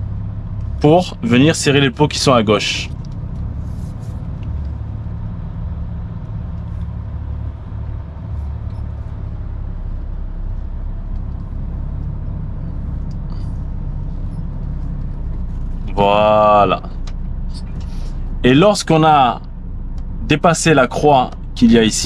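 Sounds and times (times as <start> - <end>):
diesel lorry engine rumbling: 0.0 - 22.0.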